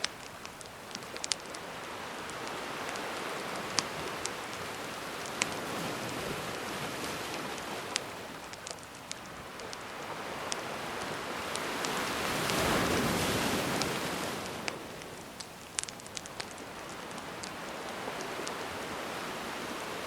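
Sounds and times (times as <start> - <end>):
campfire crackling and popping: 0.0 - 20.0
gentle ocean waves washing ashore: 0.0 - 20.0.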